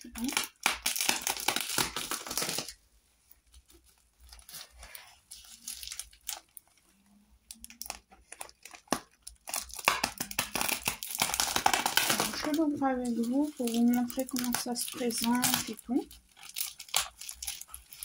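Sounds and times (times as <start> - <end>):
plastic bag crinkling: 0.0 - 2.8, 3.4 - 18.0.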